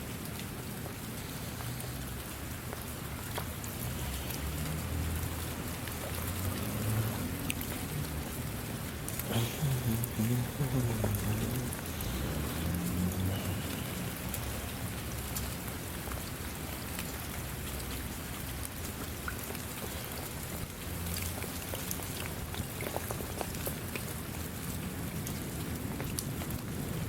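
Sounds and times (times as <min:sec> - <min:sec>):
raindrops ticking: 0:00.0 - 0:27.0
steady rain falling: 0:00.0 - 0:27.0.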